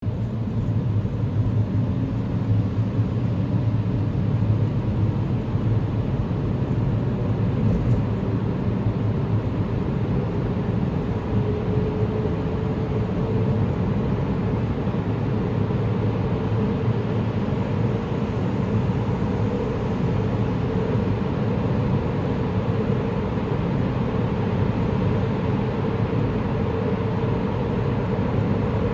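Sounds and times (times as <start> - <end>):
traffic rumbling in a tunnel: 0.0 - 28.9.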